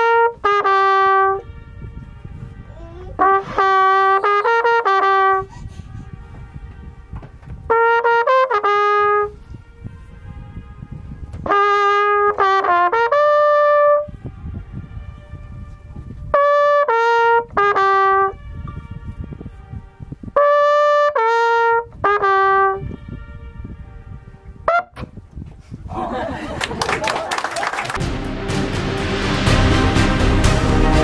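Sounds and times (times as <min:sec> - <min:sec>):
echo of horn notes: 0:00.0 - 0:25.0
flugelhorn playing: 0:00.0 - 0:25.2.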